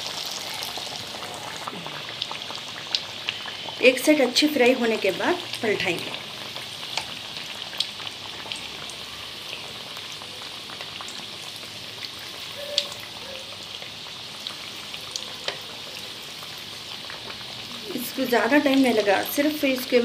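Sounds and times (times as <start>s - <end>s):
oil crackles and pops: 0.0s - 19.4s
chicken deep-frying in oil: 0.0s - 20.0s.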